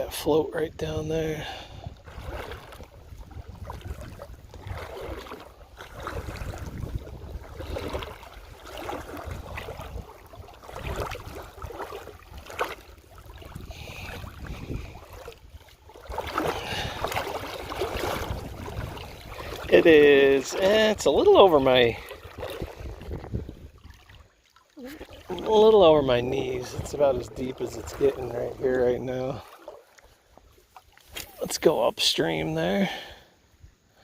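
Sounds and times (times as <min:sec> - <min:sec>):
wind rumble on microphone: 0:00.0 - 0:24.3, 0:25.2 - 0:28.8
river water splashing around legs: 0:00.9 - 0:33.6.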